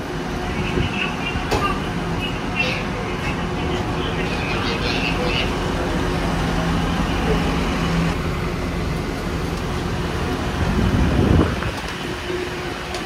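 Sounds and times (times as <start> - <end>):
low rumble of engines: 0.0 - 13.0.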